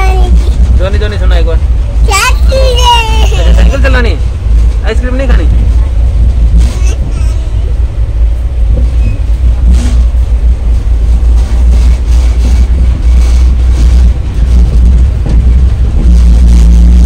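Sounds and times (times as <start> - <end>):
train rumble inside coach: 0.0 - 17.0.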